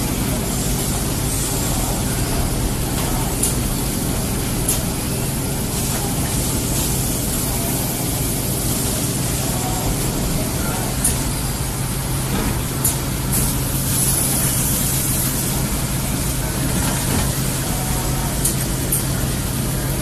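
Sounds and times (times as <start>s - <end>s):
machinery humming: 0.0s - 20.0s.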